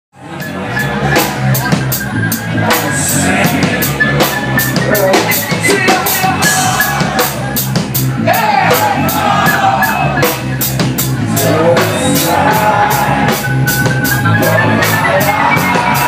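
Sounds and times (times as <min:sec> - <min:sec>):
drum kit beat: 0:00.2 - 0:16.0
keyboard lines: 0:00.2 - 0:16.0.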